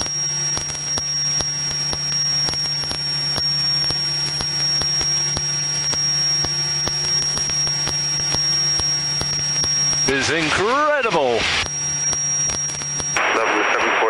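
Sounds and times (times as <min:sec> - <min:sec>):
aircraft engine and propeller drone: 0:00.0 - 0:14.0
high-pitched whine: 0:00.0 - 0:14.0.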